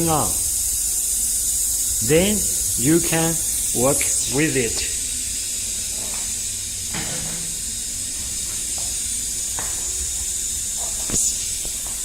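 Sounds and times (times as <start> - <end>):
machine air hiss and hum: 0.0 - 12.0.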